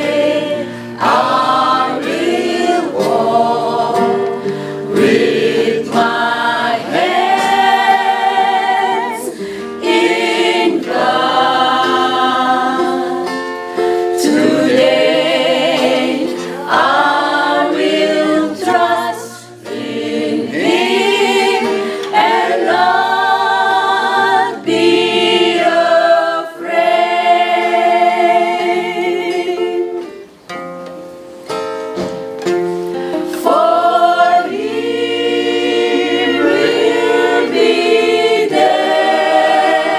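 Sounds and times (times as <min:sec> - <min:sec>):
choir singing: 0:00.0 - 0:30.3, 0:33.3 - 0:39.9
acoustic guitar: 0:00.0 - 0:39.9.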